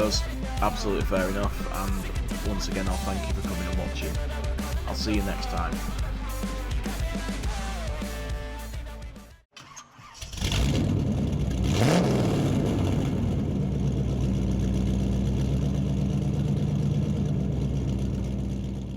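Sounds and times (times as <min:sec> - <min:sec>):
car engine starting and idling: 0:00.0 - 0:07.8, 0:09.6 - 0:18.9.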